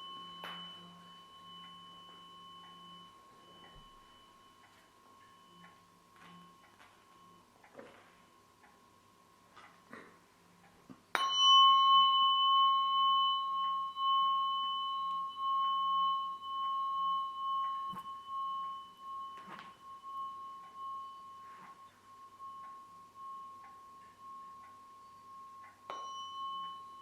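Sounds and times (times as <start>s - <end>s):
tuning fork ringing: 0.0s - 27.0s.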